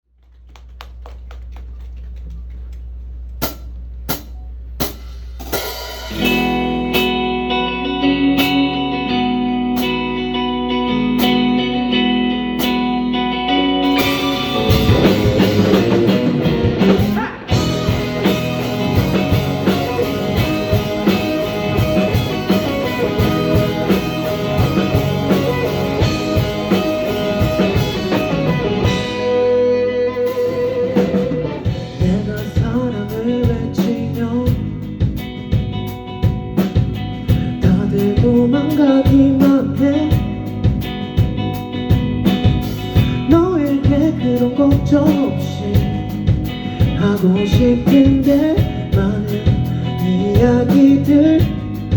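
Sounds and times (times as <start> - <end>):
drums: 0.2 - 51.9
live band playing: 5.5 - 51.9.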